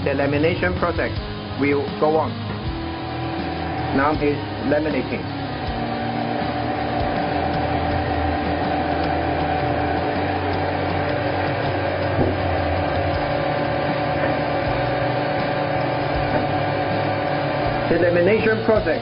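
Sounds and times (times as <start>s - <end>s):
vacuum pump humming: 0.0s - 19.0s.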